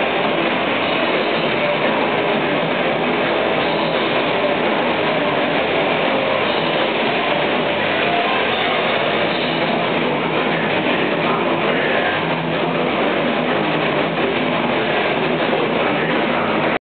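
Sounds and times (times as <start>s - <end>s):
heavy metal band playing live: 0.0s - 16.8s.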